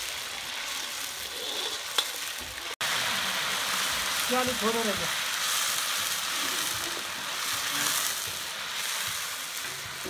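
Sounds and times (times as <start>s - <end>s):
insects sizzling in oil: 0.0s - 10.0s.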